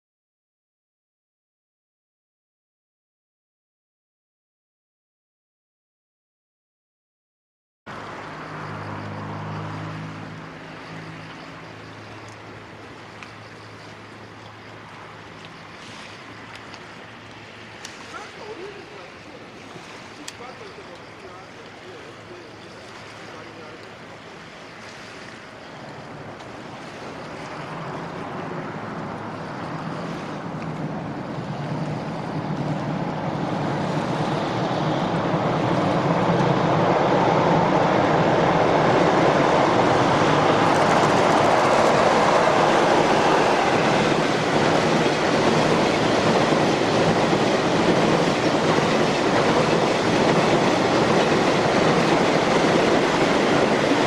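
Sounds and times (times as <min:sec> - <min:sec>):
freight train rumbling over bridge: 0:07.9 - 0:54.0.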